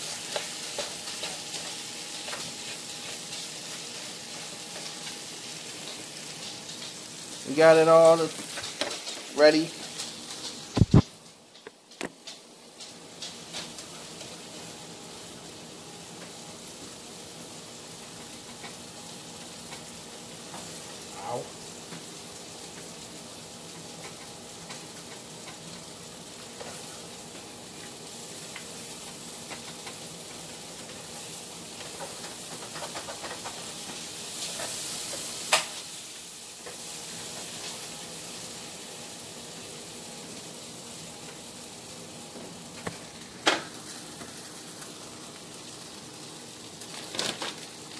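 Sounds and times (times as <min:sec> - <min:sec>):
chicken sizzling in a pan: 0:00.0 - 0:47.9.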